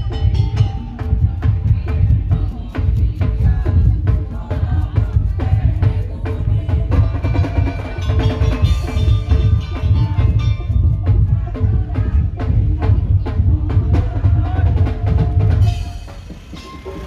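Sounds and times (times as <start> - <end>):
heavy bass drums: 0.0 - 17.0
percussion melody: 0.0 - 17.0
wooden slit-drum strikes: 0.0 - 17.0.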